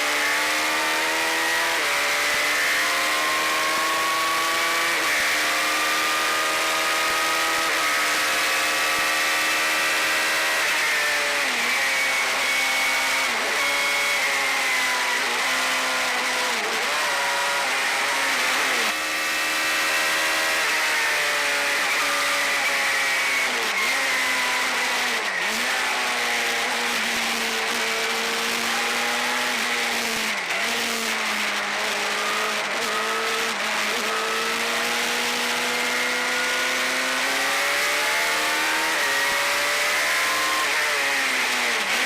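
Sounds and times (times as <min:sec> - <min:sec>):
race car engine at high revs: 0:00.0 - 0:42.0.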